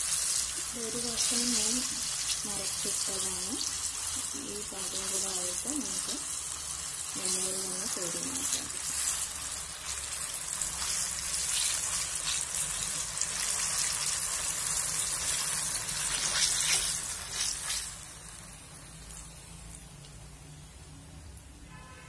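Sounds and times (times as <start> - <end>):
fritters sizzling in hot oil: 0.0 - 21.6.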